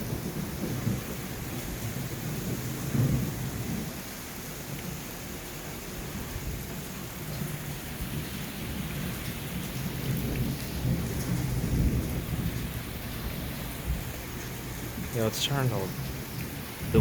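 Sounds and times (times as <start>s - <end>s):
low thunder rumble: 0.0s - 4.1s, 5.6s - 15.3s, 15.9s - 17.0s
heavy rain falling: 0.0s - 17.0s.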